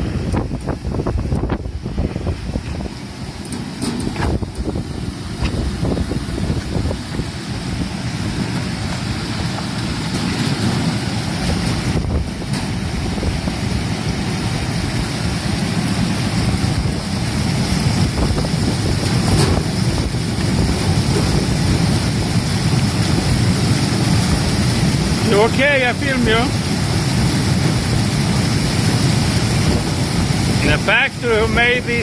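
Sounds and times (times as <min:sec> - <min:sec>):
churning water: 0:00.0 - 0:32.0
washing machine running: 0:00.0 - 0:32.0.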